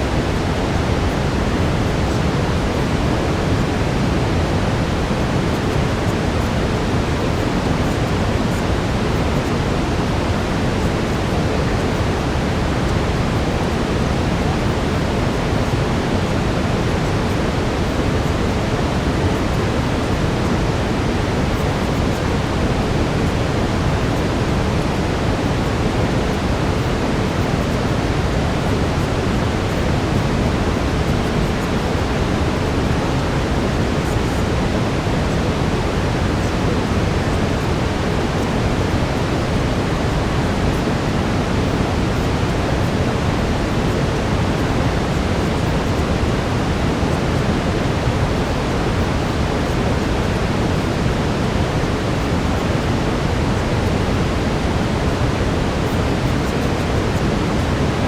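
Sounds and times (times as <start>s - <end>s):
brown noise: 0.0s - 58.0s.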